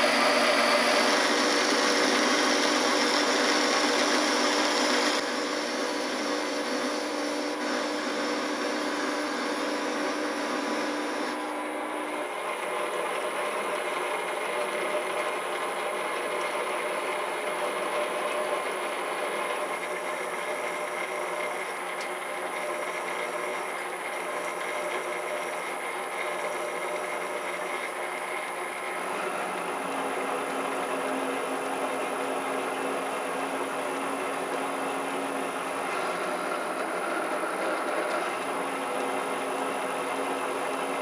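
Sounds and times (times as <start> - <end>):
metal lathe cutting steel: 0.0 - 41.0.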